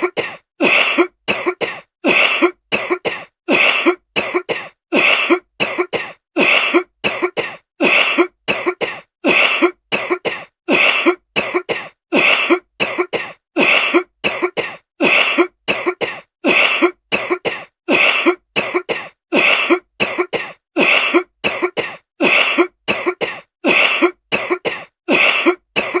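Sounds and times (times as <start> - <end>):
woman coughing: 0.0 - 26.0.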